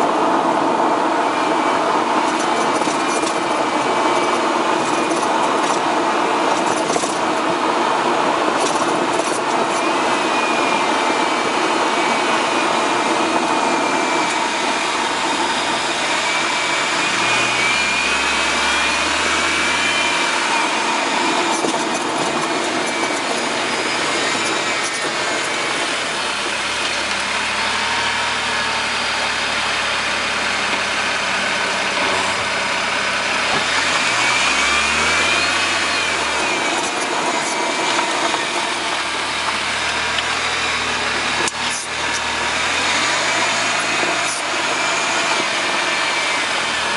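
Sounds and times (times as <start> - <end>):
car engine running: 0.0 - 46.9
road and tyre noise: 0.0 - 46.9.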